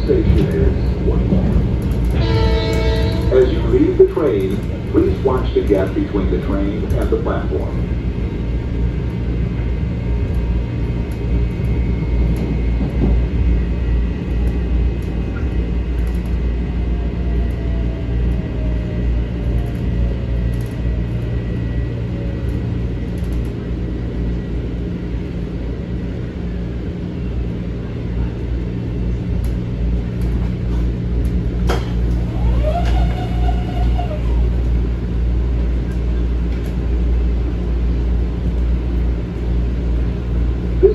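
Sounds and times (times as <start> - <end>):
low hum and rumble of train equipment: 0.0 - 40.9.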